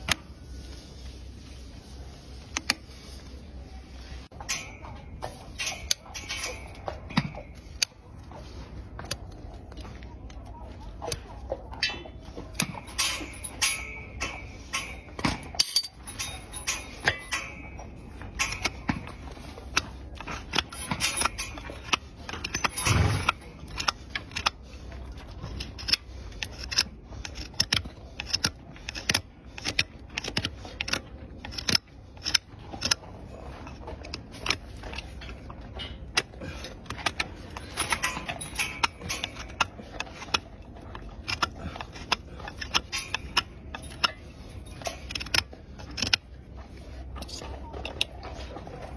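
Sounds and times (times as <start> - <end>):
steel tools scraping hoof: 0.0 - 48.9.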